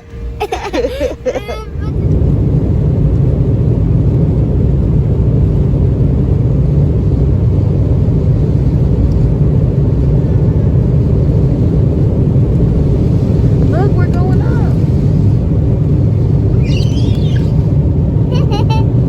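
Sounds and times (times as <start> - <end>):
jet engines rumbling in cabin: 0.0 - 19.0.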